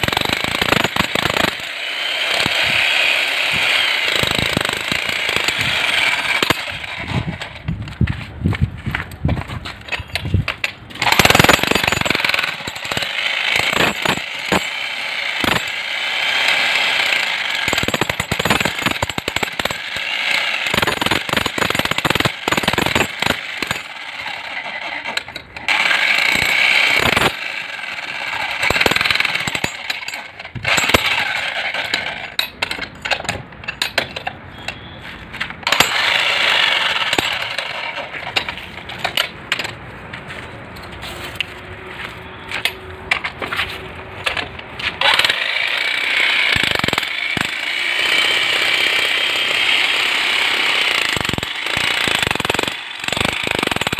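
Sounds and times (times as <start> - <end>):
power tool hammering: 0.0 - 6.9, 11.0 - 34.2, 35.6 - 39.7, 44.2 - 53.9.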